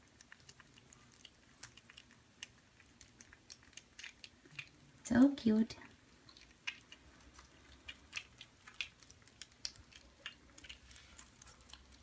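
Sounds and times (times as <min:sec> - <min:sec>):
kittens crunching dry kibble: 0:00.0 - 0:12.0.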